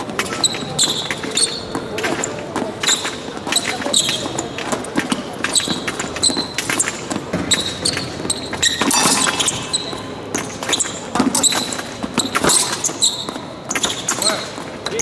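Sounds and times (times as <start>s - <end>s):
shoes squeaking: 0.0s - 15.0s.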